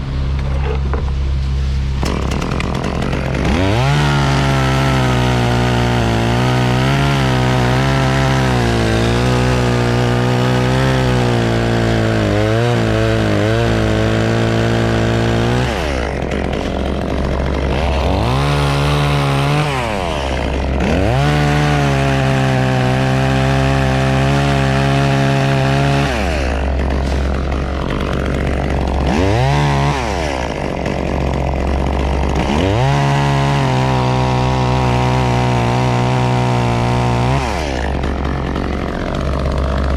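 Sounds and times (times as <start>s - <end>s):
chainsaw cutting wood: 1.9s - 39.9s.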